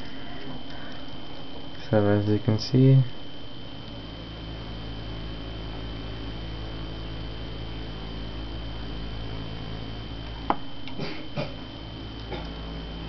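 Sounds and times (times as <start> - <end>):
high-pitched whine: 0.0 - 13.0
low electrical hum: 0.0 - 13.0.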